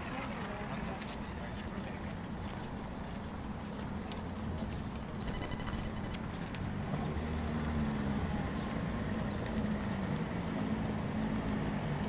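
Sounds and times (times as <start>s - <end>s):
footsteps on cobblestones: 0.0s - 12.0s.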